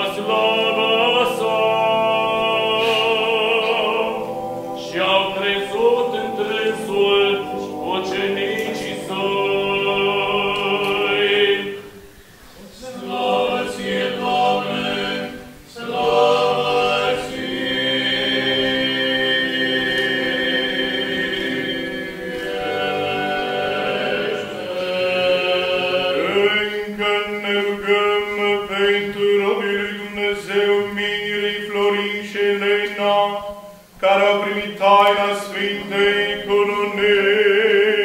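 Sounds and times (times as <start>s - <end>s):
voices singing liturgical chant: 0.0s - 38.0s.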